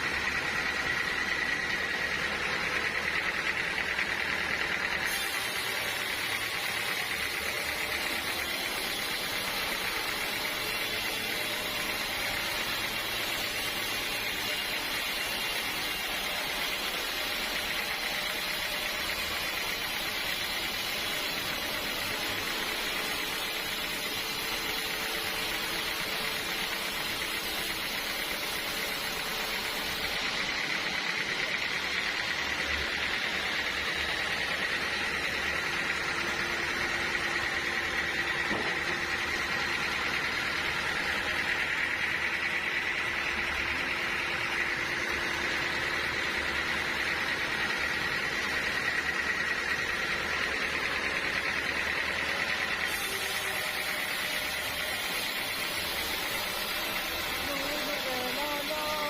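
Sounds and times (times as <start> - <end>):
sawmill machinery hissing drone: 0.0 - 59.0.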